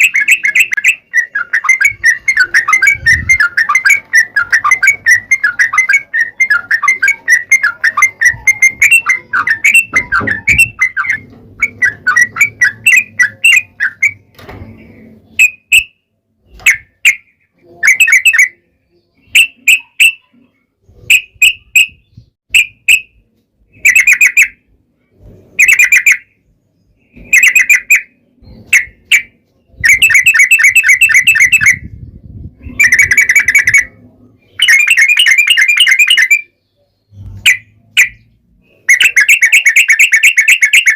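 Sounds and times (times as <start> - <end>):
bird chattering song: 0.0 - 24.8, 25.6 - 40.9.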